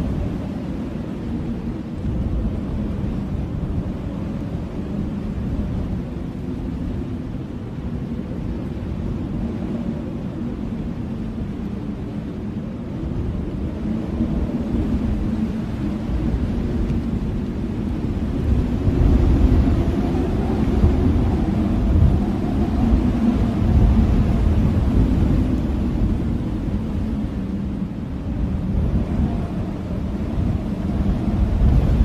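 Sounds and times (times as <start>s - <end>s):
blizzard wind rumbling: 0.0s - 32.0s.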